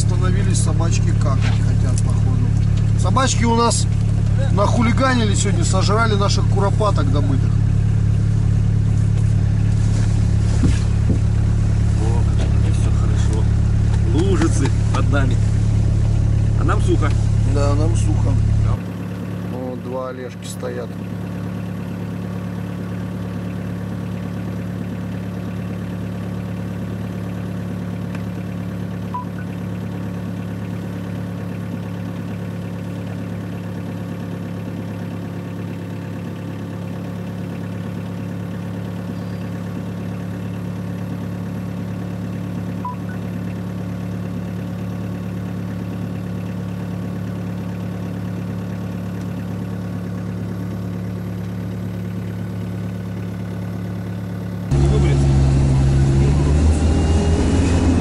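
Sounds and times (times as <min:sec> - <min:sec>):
diesel engine running at low revs: 0:00.0 - 0:58.0.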